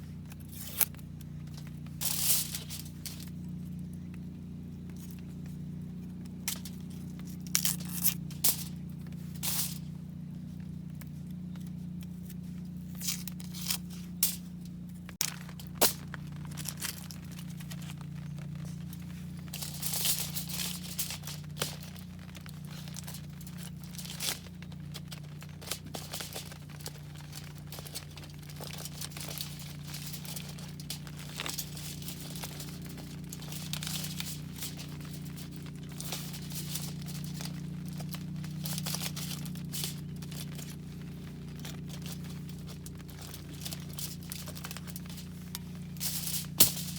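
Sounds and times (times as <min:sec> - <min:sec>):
crinkling and rustling: 0:00.0 - 0:46.9
steady low hum: 0:00.0 - 0:46.9.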